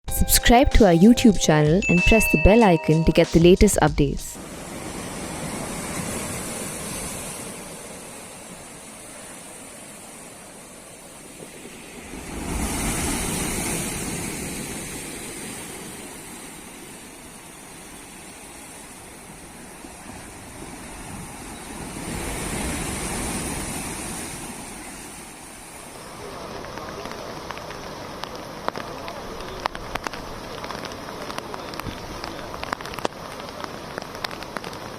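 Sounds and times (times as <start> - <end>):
sea surf washing onto beach: 4.4 - 34.9.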